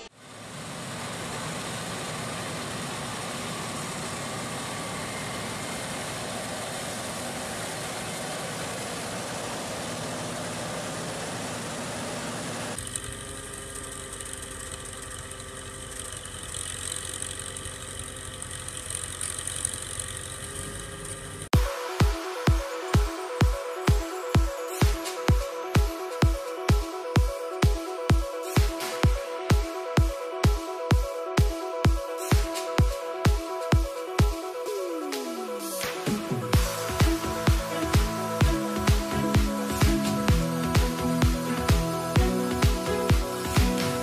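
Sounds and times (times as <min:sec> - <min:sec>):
machine engine running: 0:00.0 - 0:44.0
machine hum with high whine: 0:00.0 - 0:44.0.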